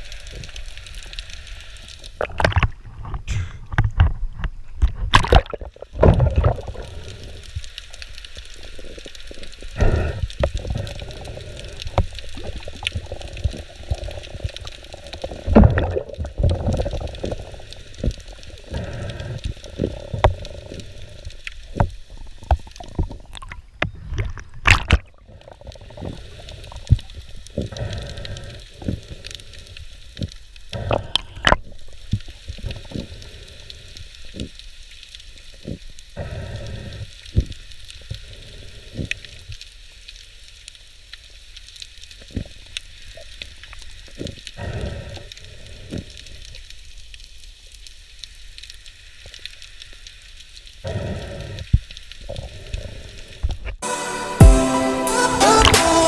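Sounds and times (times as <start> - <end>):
underwater watery rush and gurgling: 0.0 - 53.9.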